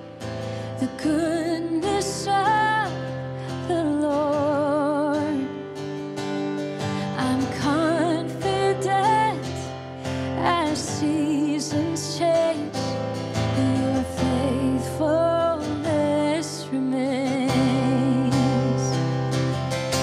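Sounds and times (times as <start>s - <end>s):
acoustic guitar strumming: 0.0s - 20.0s
woman singing with vibrato: 0.7s - 5.7s, 7.0s - 19.2s.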